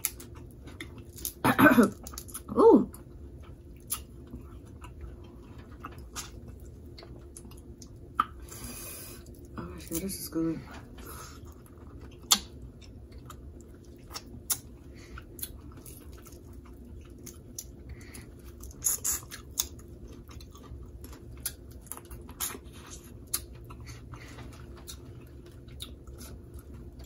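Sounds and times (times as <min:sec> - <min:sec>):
person chewing and smacking: 0:00.0 - 0:08.5, 0:11.4 - 0:27.0
low steady hum: 0:00.0 - 0:27.0.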